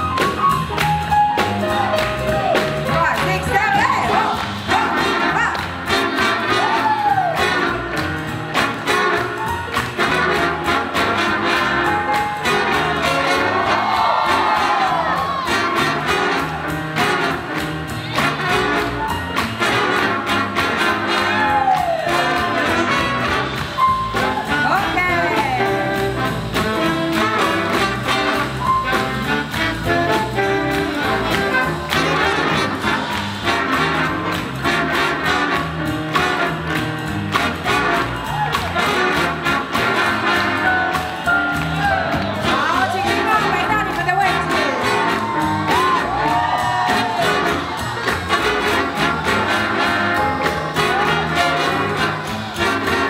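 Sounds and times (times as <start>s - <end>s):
swing jazz band playing: 0.0s - 53.0s.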